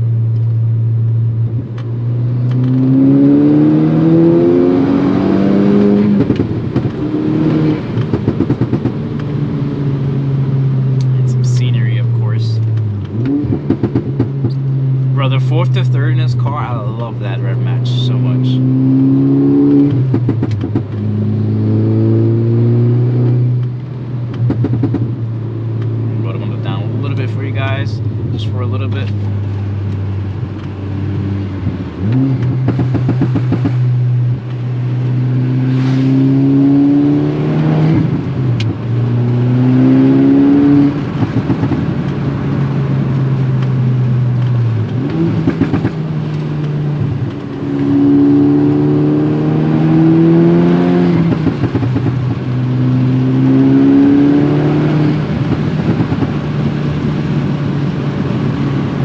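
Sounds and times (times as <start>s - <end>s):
car engine revving through gears: 1.4s - 59.0s.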